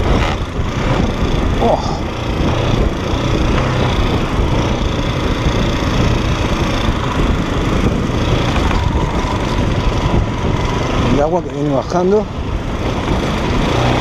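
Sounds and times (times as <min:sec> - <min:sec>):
motorcycle engine running under load: 0:00.0 - 0:14.0.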